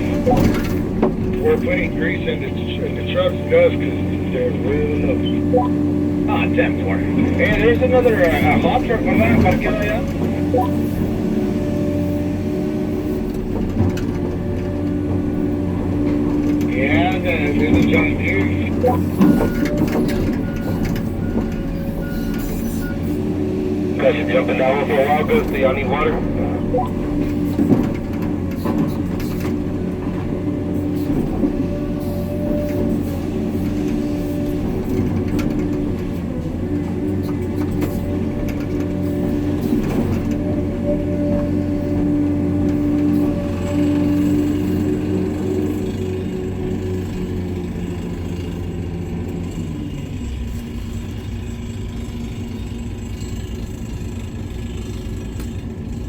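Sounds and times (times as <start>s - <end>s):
diesel engine humming: 0.0s - 56.0s.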